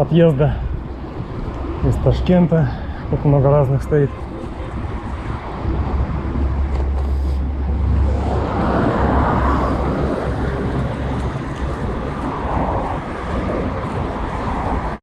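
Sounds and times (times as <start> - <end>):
city street traffic: 0.0 - 15.0
wind rumbling on microphone: 0.0 - 15.0
vehicle passing: 0.4 - 15.0.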